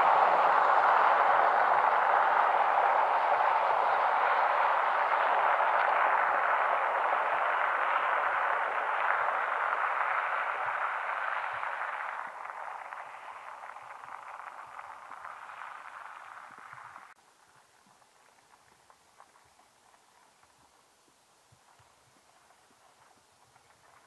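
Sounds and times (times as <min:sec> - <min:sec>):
car tyre and road noise: 0:00.0 - 0:24.0.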